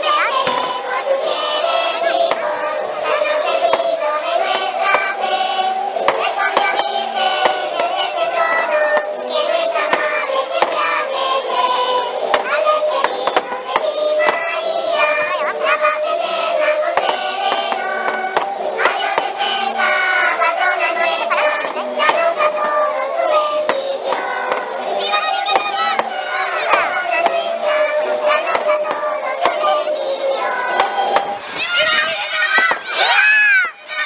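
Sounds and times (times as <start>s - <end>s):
crowd singing in unison: 0.0s - 31.6s.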